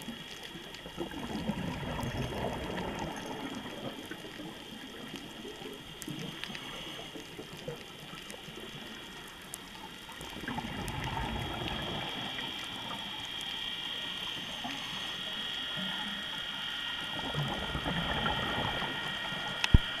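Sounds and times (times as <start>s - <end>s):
faint clicks: 0.0s - 16.4s, 17.9s - 20.0s
faint high whine: 0.0s - 20.0s
underwater bubbles gurgling: 0.0s - 20.0s
steady hiss: 2.3s - 20.0s.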